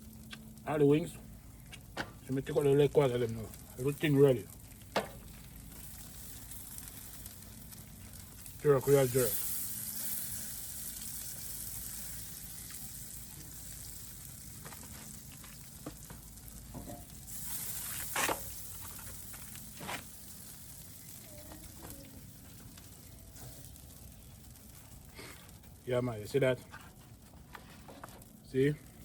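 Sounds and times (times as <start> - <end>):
food sizzling in frying: 0.0 - 26.1.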